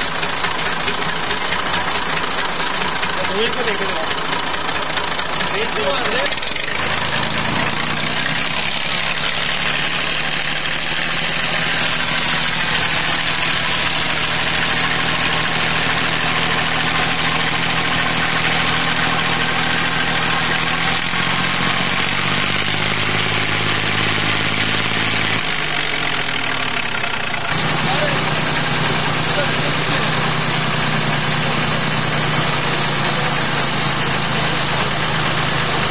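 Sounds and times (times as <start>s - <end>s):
diesel tractor engine running: 0.0s - 35.9s.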